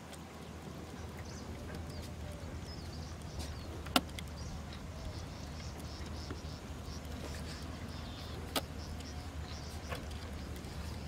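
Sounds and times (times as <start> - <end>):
small birds chirping: 0.3 - 11.0.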